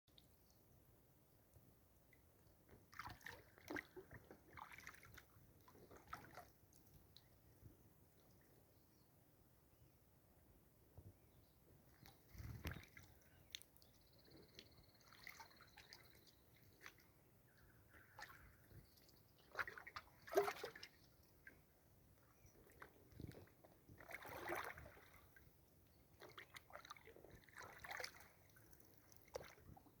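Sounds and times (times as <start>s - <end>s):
faint water splashing: 0.1s - 9.2s, 11.0s - 30.0s.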